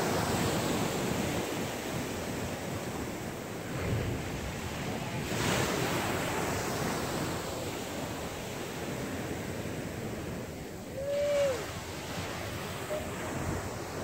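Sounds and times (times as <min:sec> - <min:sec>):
small waves breaking: 0:00.0 - 0:14.0
wind on the microphone: 0:00.0 - 0:14.0.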